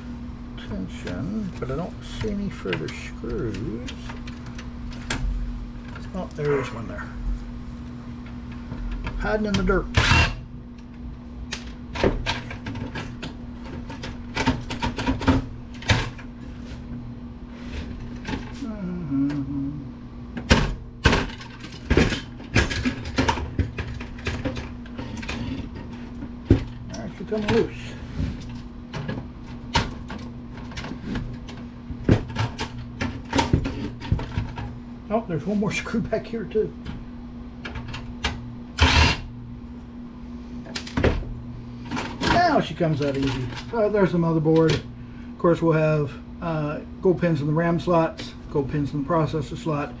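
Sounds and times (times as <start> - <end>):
low hum: 0.0 - 47.5.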